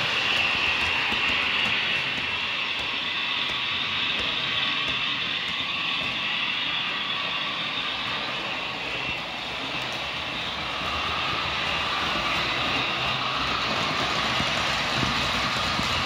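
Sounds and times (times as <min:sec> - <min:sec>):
electric motor: 0:00.0 - 0:16.0
model train rolling on rails: 0:00.0 - 0:16.0.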